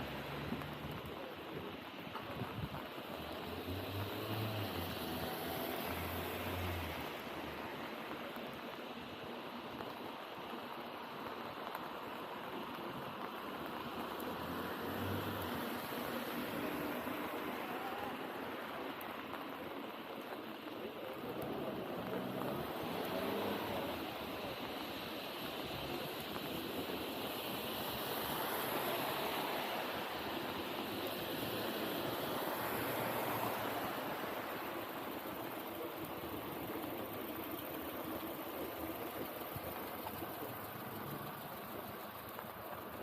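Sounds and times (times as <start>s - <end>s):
rain on a street: 0.0s - 43.0s.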